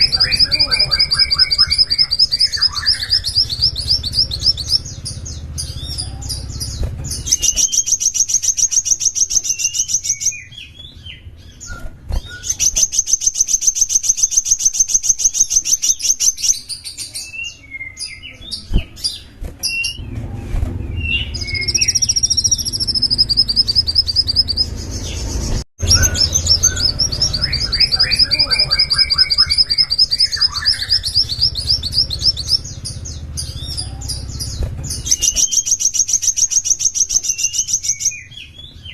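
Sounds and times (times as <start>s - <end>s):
songbird trilling: 0.0s - 20.0s, 20.9s - 38.9s
bird chirps: 0.0s - 38.9s.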